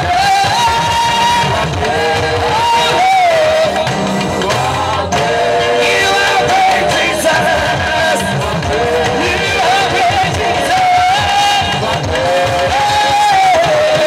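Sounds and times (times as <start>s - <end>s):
band with steady low beat: 0.0s - 14.0s
voices singing gospel together: 0.0s - 14.0s.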